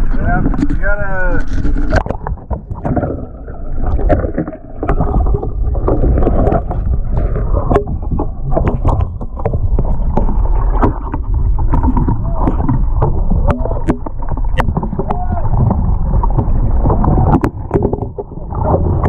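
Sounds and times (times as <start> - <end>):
underwater churning rumble: 0.0 - 19.0.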